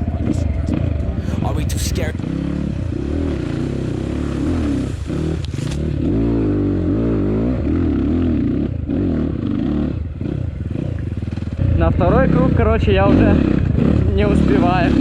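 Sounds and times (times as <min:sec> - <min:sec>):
motorcycle engine revving: 0:02.2 - 0:15.0.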